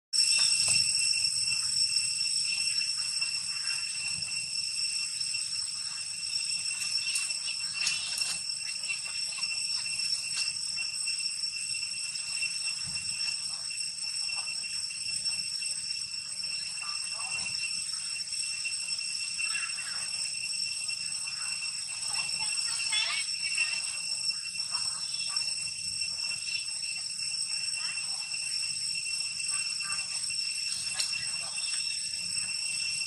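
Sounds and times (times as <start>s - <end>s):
high-pitched insect drone: 0.2s - 33.0s.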